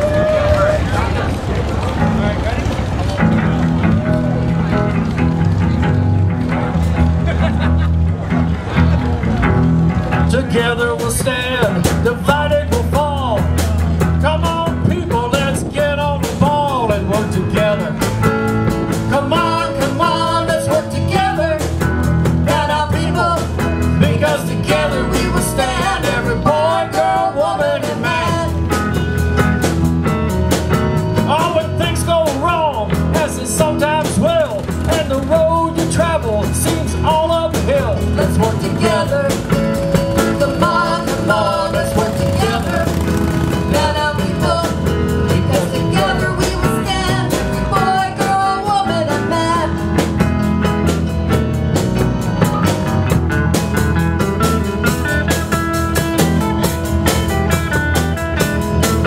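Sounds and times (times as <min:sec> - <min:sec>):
blues-rock band playing: 0:00.0 - 0:59.0.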